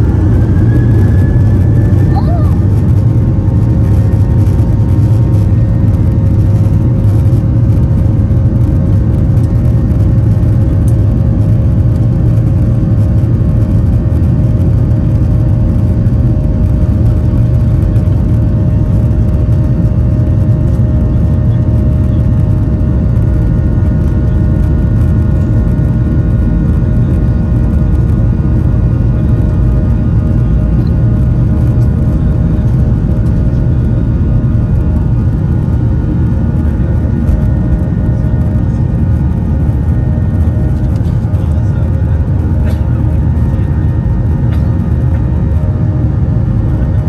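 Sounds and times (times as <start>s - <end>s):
engine and airflow roar: 0.0s - 47.0s
faint constant hum: 0.0s - 47.0s.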